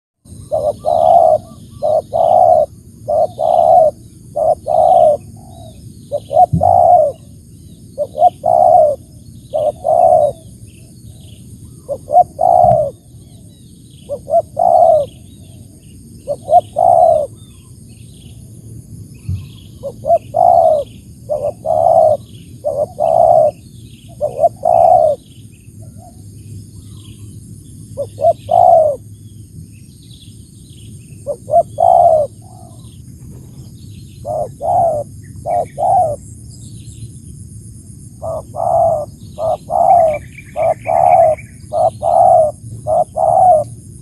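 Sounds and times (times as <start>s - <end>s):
dove cooing: 0.3s - 7.3s, 8.0s - 17.6s, 19.3s - 26.2s, 28.0s - 29.1s, 31.2s - 36.2s, 38.2s - 43.9s
insect-like hiss: 0.3s - 44.0s
small birds chirping: 0.3s - 44.0s.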